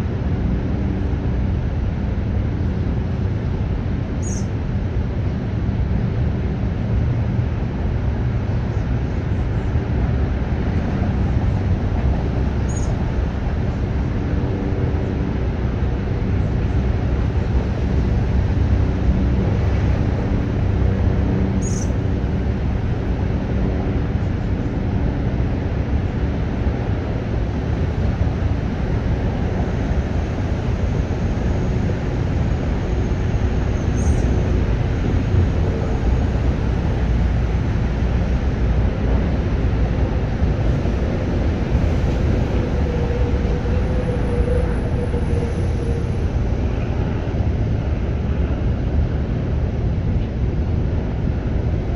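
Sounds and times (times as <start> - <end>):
low outdoor rumble: 0.0 - 51.9
faint hums: 5.8 - 50.5.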